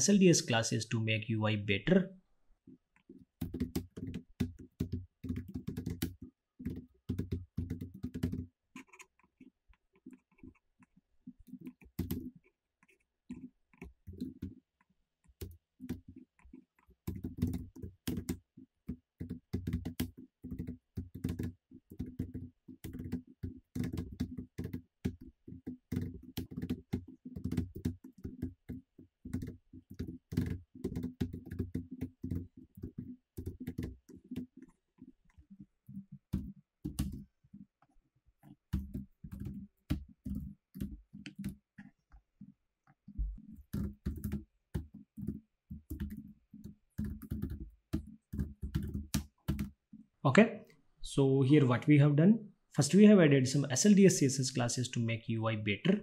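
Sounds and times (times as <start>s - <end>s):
computer keyboard typing: 3.0s - 37.7s, 38.4s - 42.1s, 43.1s - 49.8s.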